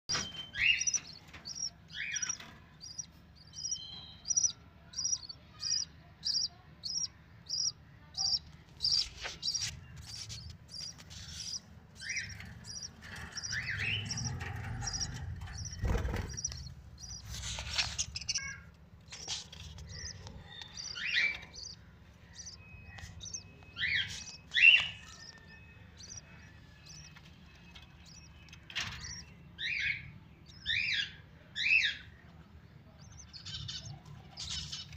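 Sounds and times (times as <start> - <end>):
chicks chirping: 0.1 - 32.1, 32.8 - 34.9.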